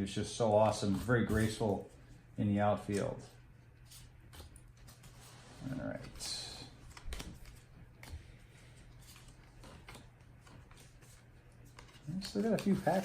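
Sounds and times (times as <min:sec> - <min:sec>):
cards and wrappers rustling: 0:00.6 - 0:02.1, 0:02.8 - 0:13.0.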